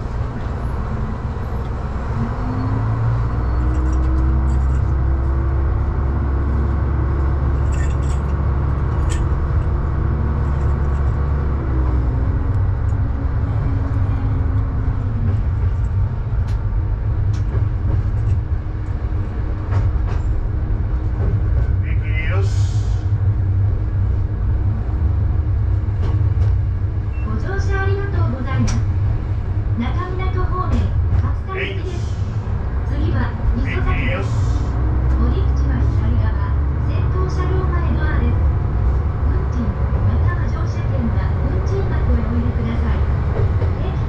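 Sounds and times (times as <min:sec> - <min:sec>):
diesel railcar engine revving: 0:00.0 - 0:44.0.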